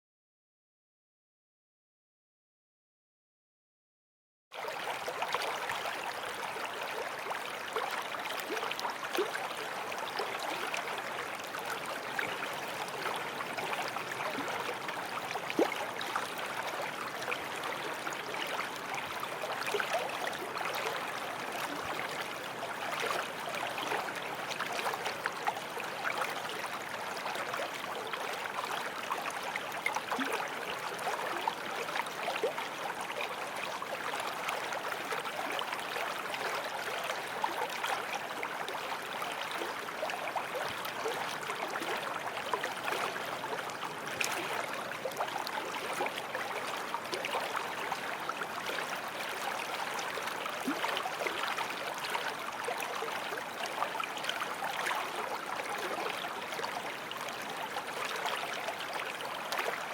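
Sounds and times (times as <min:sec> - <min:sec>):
stream flowing: 0:04.6 - 0:59.9.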